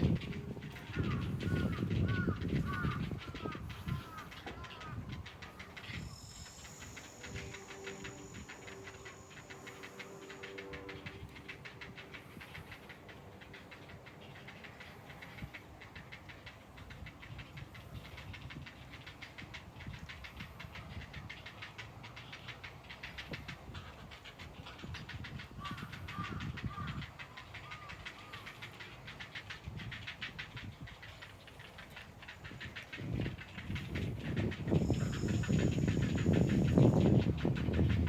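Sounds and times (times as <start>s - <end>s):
cicadas singing in rapid pulses: 0.0s - 38.0s
wind rumbling on microphone: 0.0s - 38.0s.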